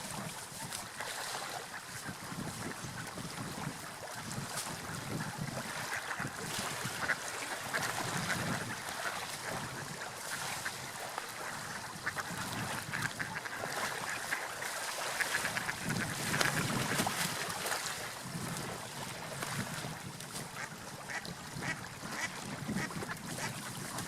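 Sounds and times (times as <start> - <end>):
sea waves: 0.0 - 24.0
wind: 0.0 - 24.0.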